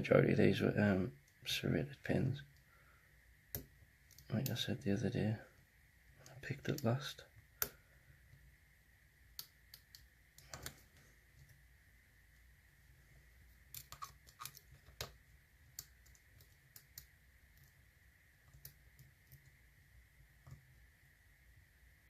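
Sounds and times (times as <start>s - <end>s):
faint high hum: 0.0s - 22.0s.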